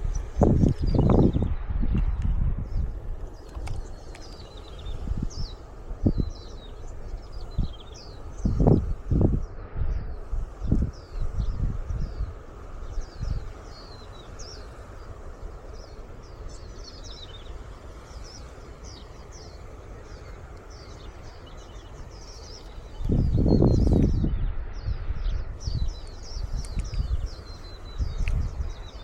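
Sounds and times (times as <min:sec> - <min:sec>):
outdoor hiss: 0:00.0 - 0:24.7, 0:25.4 - 0:29.0
birds chirping: 0:00.0 - 0:29.0.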